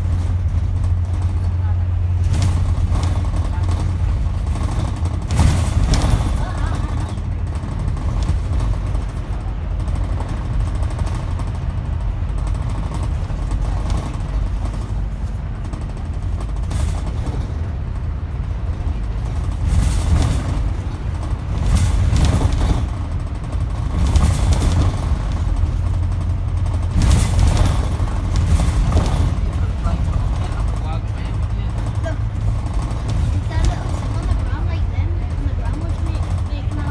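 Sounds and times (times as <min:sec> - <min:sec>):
bus engine and road rumble: 0:00.0 - 0:36.9.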